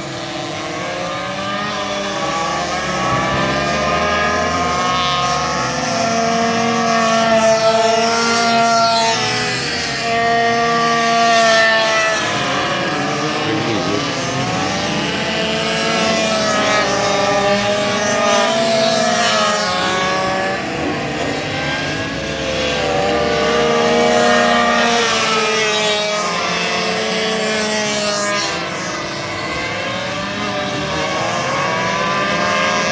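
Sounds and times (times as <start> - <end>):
minibike engines revving: 0.0 - 32.9.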